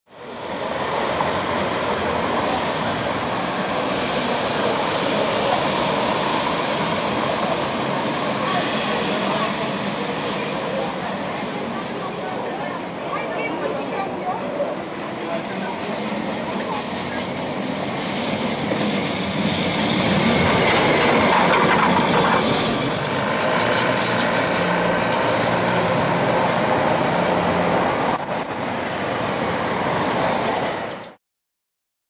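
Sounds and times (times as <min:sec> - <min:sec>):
tram wheels rumbling on rails: 0:00.1 - 0:31.2.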